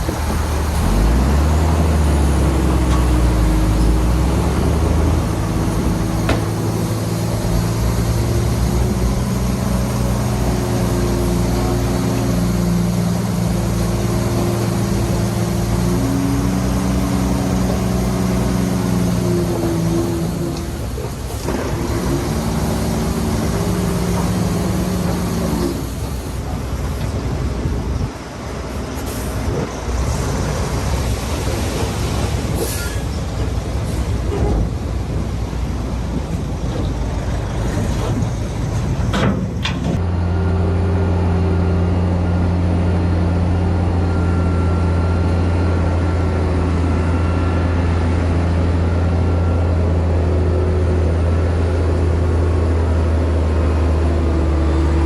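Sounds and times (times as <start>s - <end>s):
heavy diesel engines working: 0.0s - 55.0s
low engine drone: 0.0s - 55.0s.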